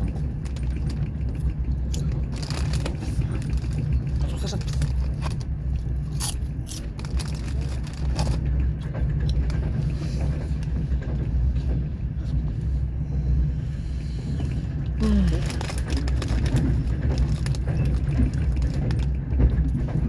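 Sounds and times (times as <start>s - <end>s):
train carriage rumble: 0.0s - 20.0s.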